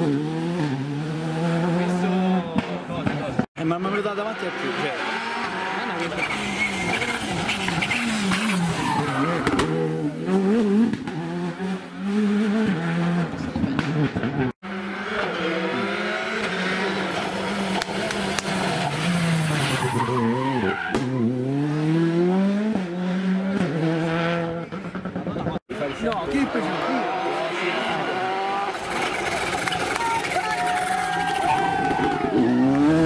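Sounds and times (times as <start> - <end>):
rally cars passing: 0.0 - 33.0.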